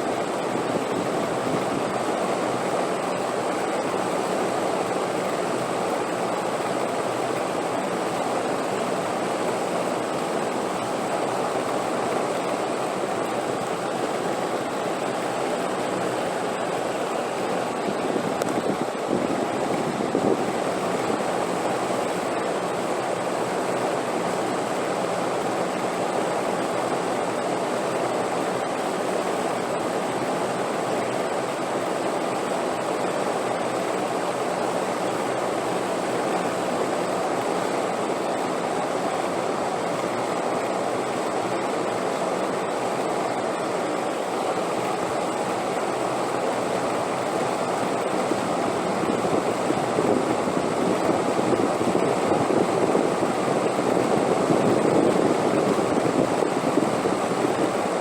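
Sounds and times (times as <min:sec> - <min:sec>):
steady wind: 0:00.0 - 0:58.0.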